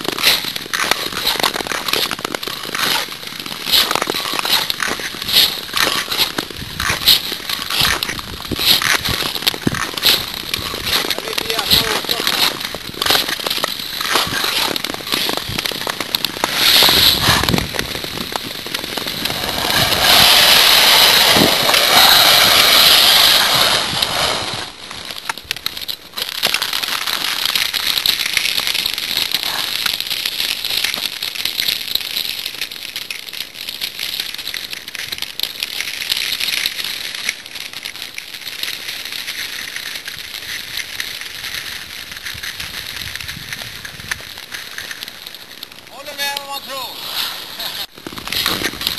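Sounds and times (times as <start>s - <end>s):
ice skates scraping on ice: 0.0s - 48.9s.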